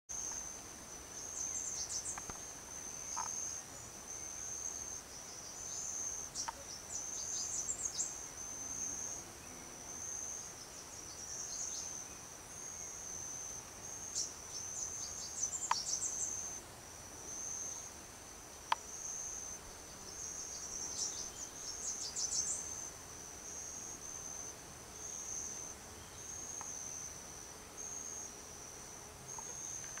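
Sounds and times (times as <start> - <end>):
insects trilling: 0.1 - 30.0.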